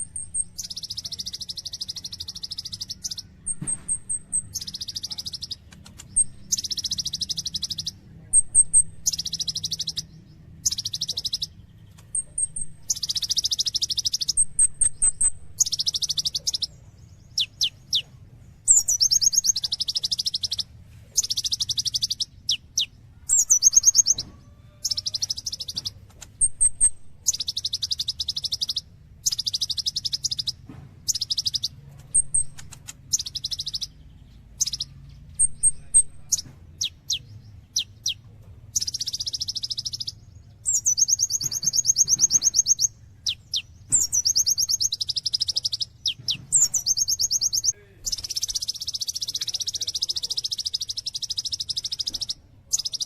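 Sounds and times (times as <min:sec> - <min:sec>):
sunbird trilling song: 0:00.0 - 0:53.0.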